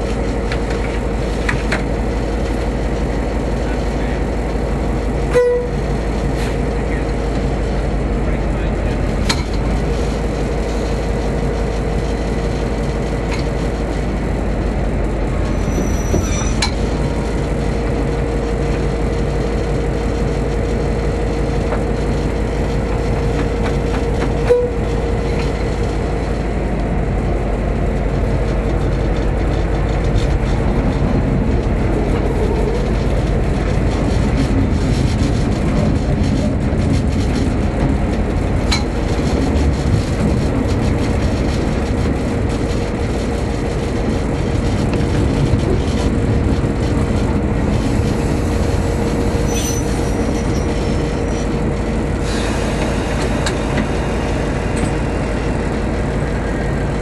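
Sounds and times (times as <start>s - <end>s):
diesel engine drone: 0.0s - 57.0s
steady whine: 0.0s - 57.0s.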